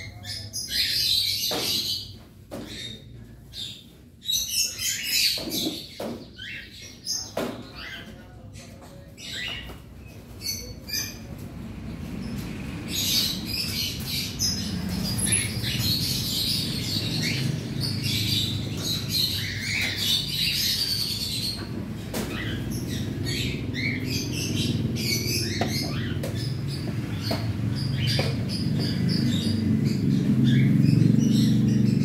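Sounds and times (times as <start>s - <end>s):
cockatiels chattering and chirping: 0.0s - 11.5s, 12.2s - 32.0s.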